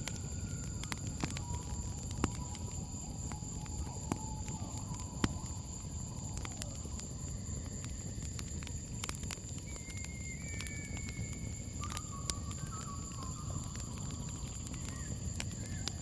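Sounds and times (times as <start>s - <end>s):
campfire crackling and popping: 0.0s - 16.0s
high-pitched insect trill: 0.0s - 16.0s.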